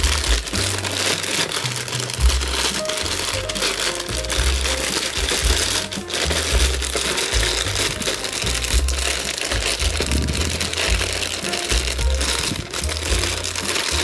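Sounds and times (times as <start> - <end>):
background music with bass: 0.0 - 14.0
plastic bags crinkling: 0.0 - 14.0.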